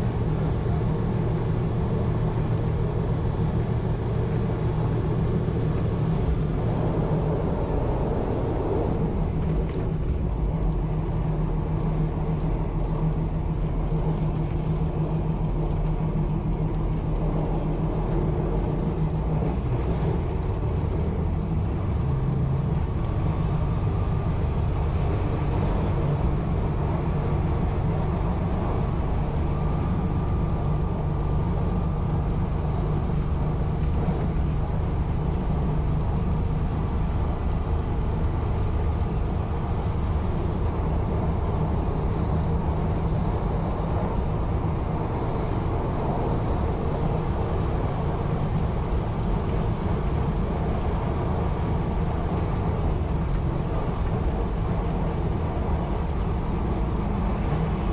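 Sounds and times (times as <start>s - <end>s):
railcar engine hum: 0.0s - 57.9s
wheel and track rumble: 0.0s - 57.9s.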